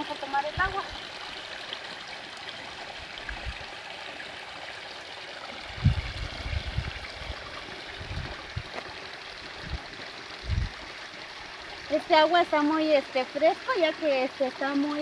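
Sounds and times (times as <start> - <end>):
creek trickling over stones: 0.0 - 15.0.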